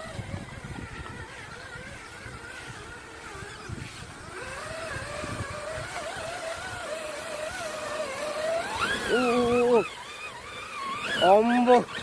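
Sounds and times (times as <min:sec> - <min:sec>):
toy car electric motor whining: 0:00.0 - 0:12.0.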